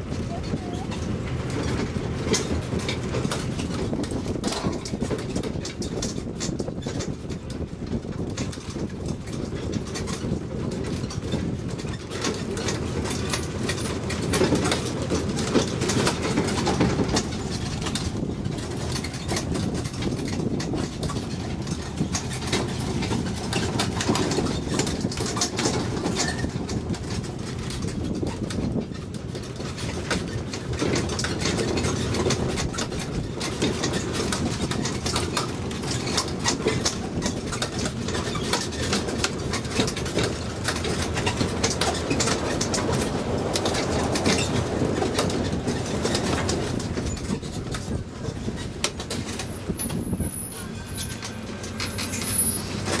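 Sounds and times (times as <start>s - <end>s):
carriages rattling and clicking: 0.0s - 53.0s
engine and tyres running: 0.0s - 53.0s.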